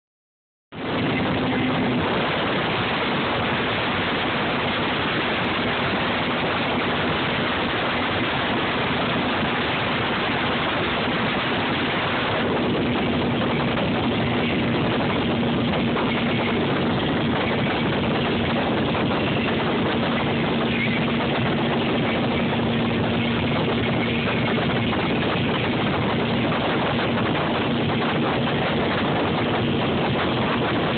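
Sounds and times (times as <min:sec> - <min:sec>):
motorboat engine drone: 0:00.7 - 0:30.9
rush of wind and water: 0:00.7 - 0:30.9.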